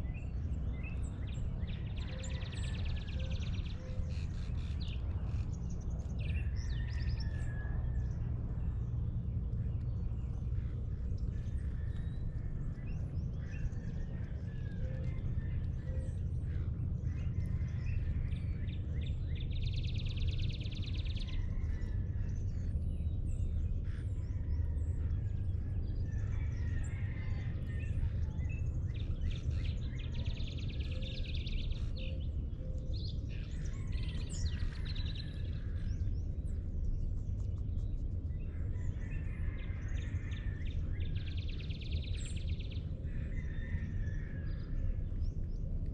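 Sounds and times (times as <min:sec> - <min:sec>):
birds calling and chirping: 0:00.0 - 0:45.9
steady low rumble: 0:00.0 - 0:45.9.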